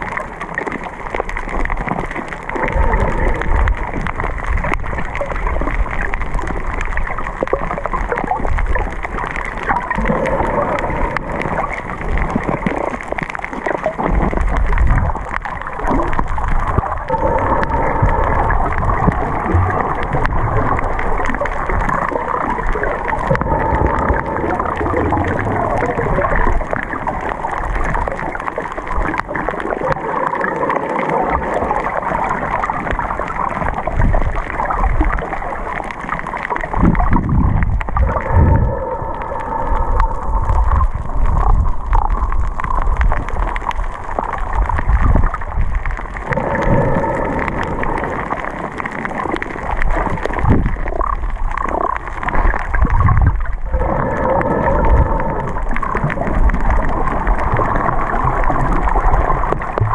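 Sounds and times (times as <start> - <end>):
underwater gurgling and swishing: 0.0 - 59.9.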